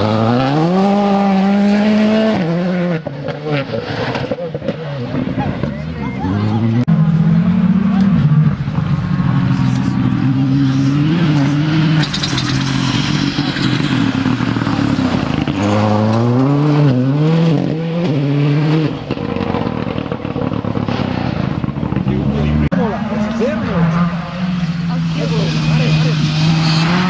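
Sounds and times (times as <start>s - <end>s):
rally car engine revving hard: 0.0s - 5.7s, 6.3s - 27.0s.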